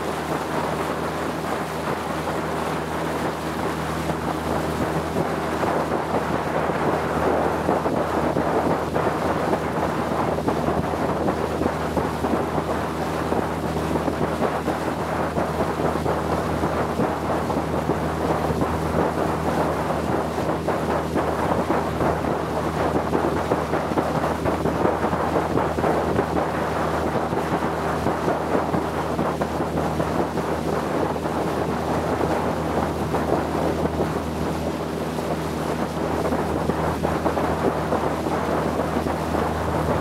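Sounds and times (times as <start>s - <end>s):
motorboat engine humming: 0.0s - 40.0s
water rushing past hull: 0.0s - 40.0s
wind buffeting microphone: 0.0s - 40.0s.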